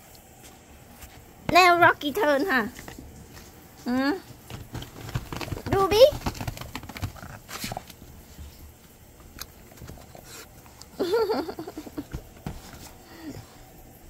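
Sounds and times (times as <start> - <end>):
paws scratching fabric basket: 0.9 - 13.8.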